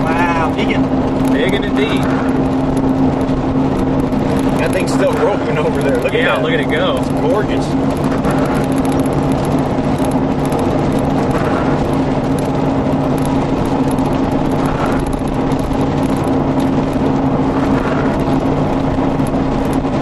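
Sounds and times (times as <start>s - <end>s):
car road and engine drone: 0.0s - 20.0s
constant low hum: 0.0s - 20.0s.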